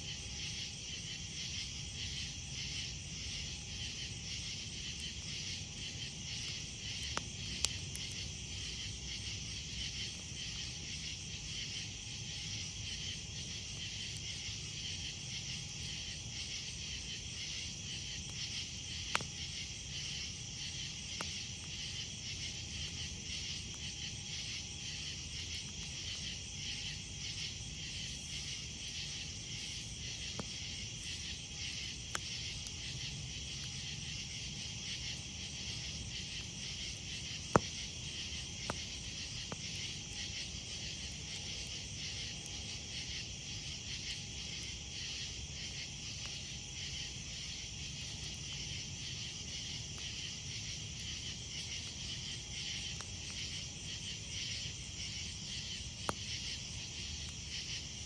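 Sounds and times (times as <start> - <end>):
crickets trilling: 0.0 - 58.0
campfire popping: 0.1 - 58.0.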